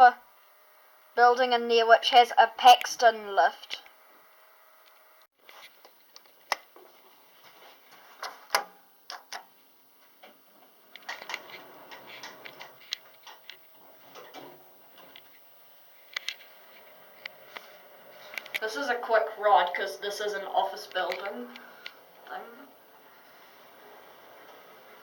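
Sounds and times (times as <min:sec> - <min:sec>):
faint background noise: 0:00.0 - 0:25.0.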